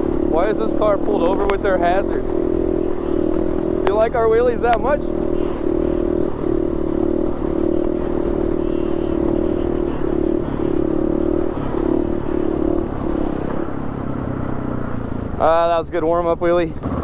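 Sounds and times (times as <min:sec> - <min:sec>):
dirt bike engine at high revs: 0:00.0 - 0:17.0.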